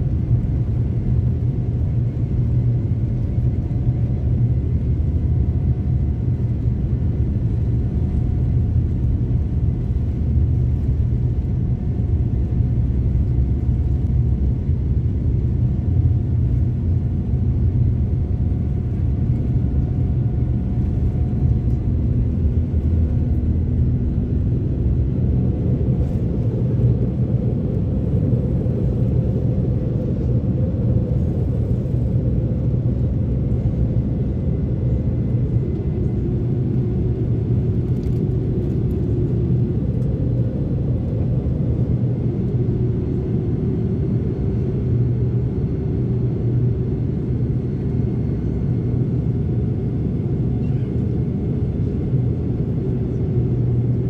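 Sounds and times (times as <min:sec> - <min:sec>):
aircraft cabin rumble: 0:00.0 - 0:54.0
faint jet engine whine: 0:00.0 - 0:54.0.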